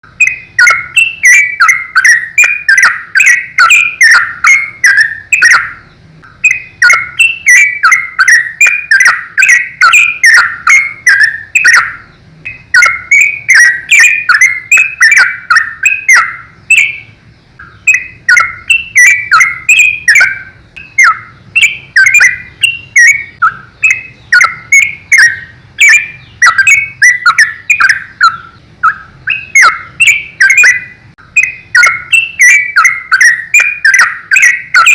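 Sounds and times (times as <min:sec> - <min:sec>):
bird chirping song: 0:00.0 - 0:34.9.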